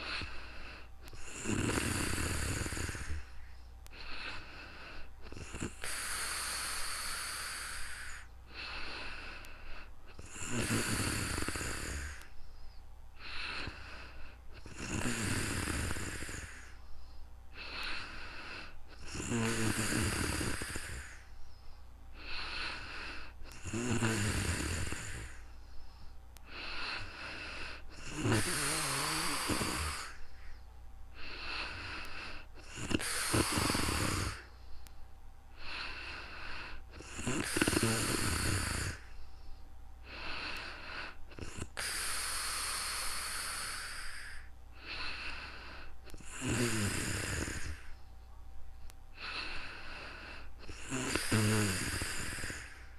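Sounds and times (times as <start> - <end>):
soft breath: 0.0 - 1.4, 2.3 - 10.4, 11.3 - 14.8, 15.8 - 19.2, 20.3 - 23.7, 24.8 - 52.9
person snoring: 0.0 - 12.3, 13.2 - 16.8, 17.5 - 21.2, 22.2 - 25.5, 26.4 - 30.4, 31.2 - 34.5, 35.6 - 39.1, 40.0 - 48.0, 49.2 - 52.9.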